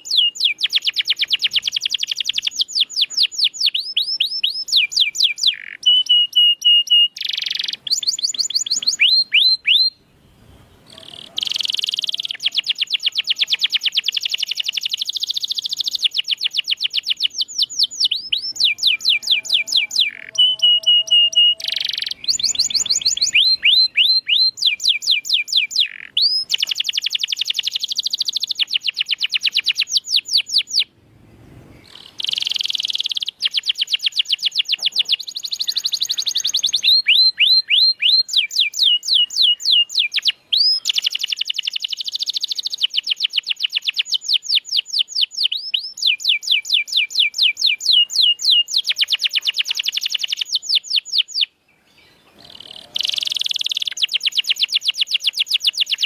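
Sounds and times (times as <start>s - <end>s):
canary singing trills: 0.0s - 30.9s, 31.7s - 56.0s.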